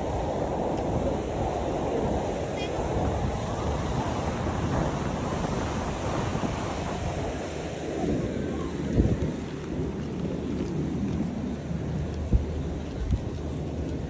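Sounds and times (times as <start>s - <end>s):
sea waves washing on shore: 0.0s - 14.0s
wind buffeting microphone: 0.0s - 14.0s.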